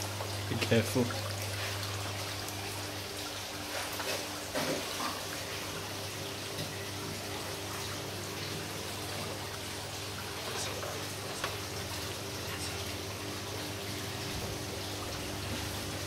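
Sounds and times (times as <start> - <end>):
aquarium pump hum: 0.0 - 16.0
water trickling: 0.0 - 16.0.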